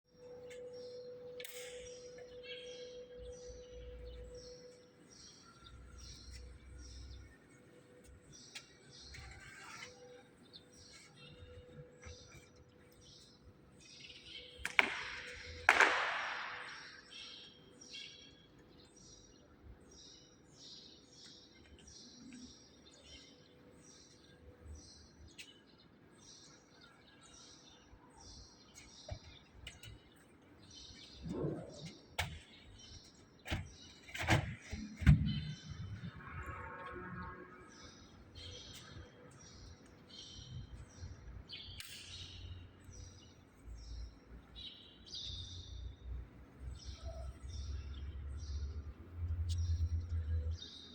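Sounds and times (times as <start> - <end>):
bird chirping: 0.1 - 50.9.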